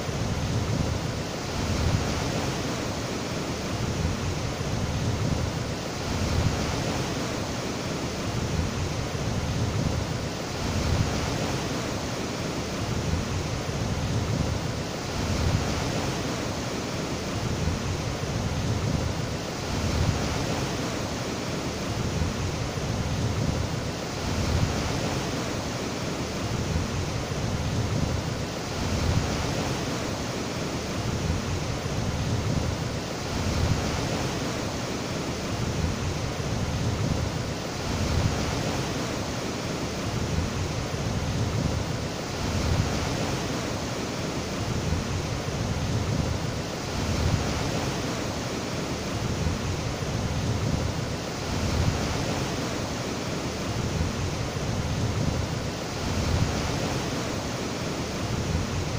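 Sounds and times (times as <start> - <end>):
white water rushing over rocks: 0.0 - 58.9.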